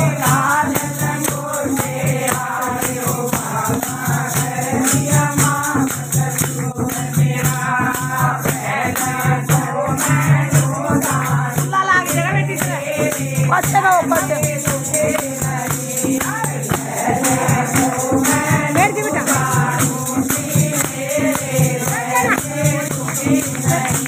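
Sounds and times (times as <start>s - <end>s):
group singing devotional song: 0.0s - 24.0s
rattling percussion beat: 0.0s - 24.0s.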